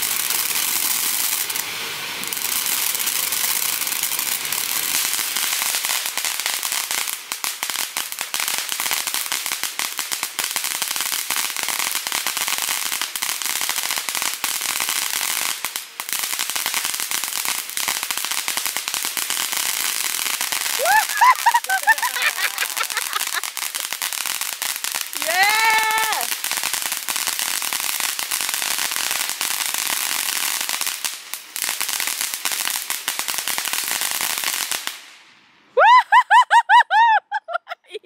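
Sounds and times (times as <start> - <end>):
firework fountain hissing and crackling: 0.0 - 36.0.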